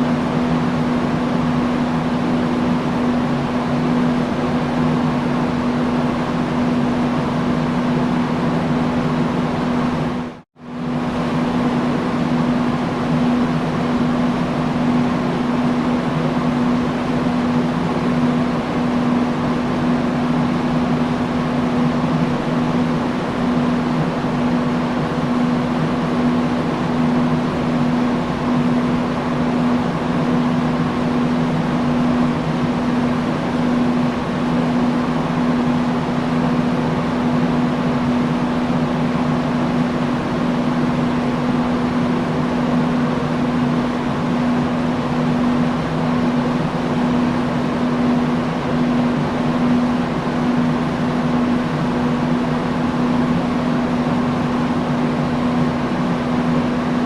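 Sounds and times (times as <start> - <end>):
fan air rushing: 0.0 - 57.0
low motor hum: 0.0 - 57.0.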